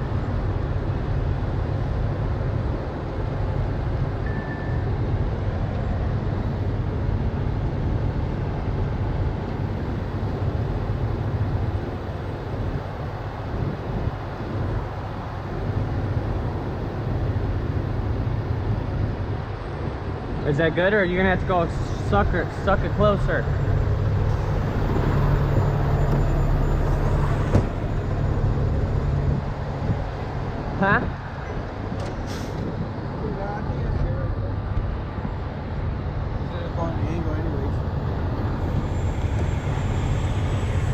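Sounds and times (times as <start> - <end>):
diesel truck engine running: 5.0 - 40.9.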